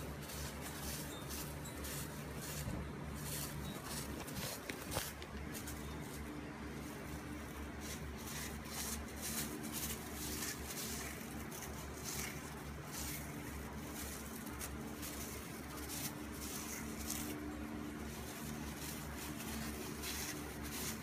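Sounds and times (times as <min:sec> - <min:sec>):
plastic bags crinkling: 0:00.0 - 0:21.0
steady low hum: 0:00.0 - 0:21.0.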